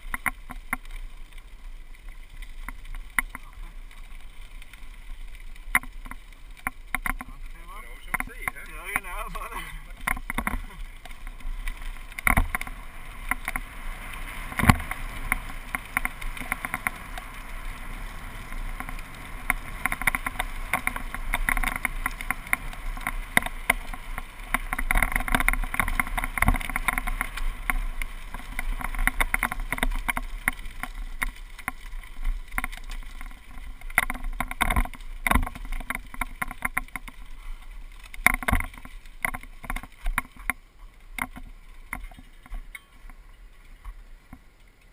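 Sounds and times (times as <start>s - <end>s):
bike knocking over bumps: 5.4s - 43.2s.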